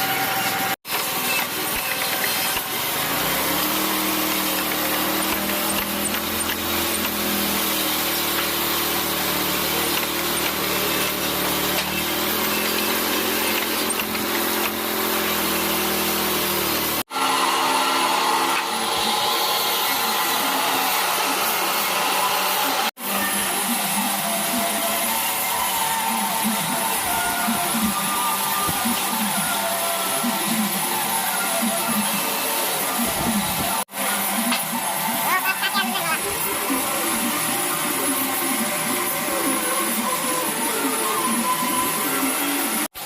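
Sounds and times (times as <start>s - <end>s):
power tool cutting hardwood: 0.0s - 43.0s.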